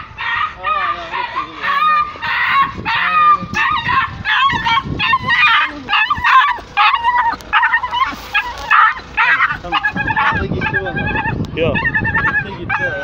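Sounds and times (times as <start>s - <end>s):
dog yelping: 0.0s - 13.0s.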